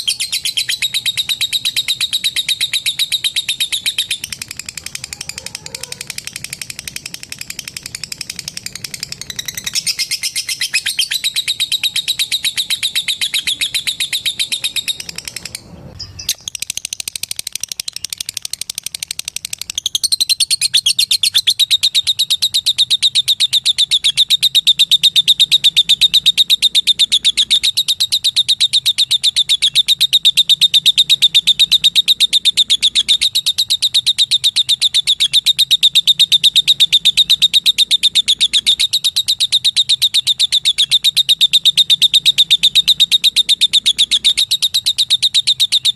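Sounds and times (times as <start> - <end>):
lovebird chattering trill: 0.0 - 45.9.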